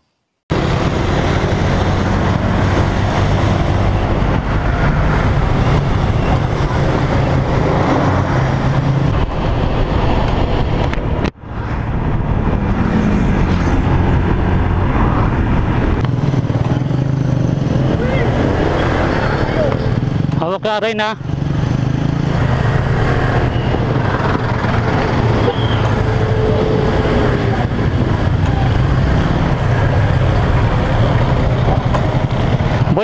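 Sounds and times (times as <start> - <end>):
wind rushing on microphone: 0.5 - 20.3, 21.4 - 33.0
motorcycle engine cruising: 0.5 - 33.0.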